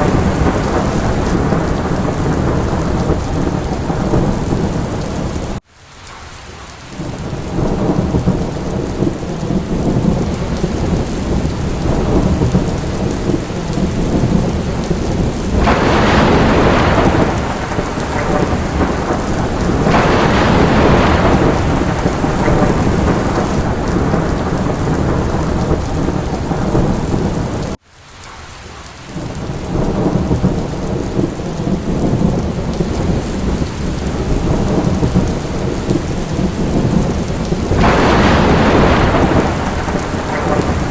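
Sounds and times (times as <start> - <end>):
low thunder rumble: 0.0 - 5.6, 7.0 - 27.8, 29.2 - 40.9
heavy rain: 0.0 - 40.9.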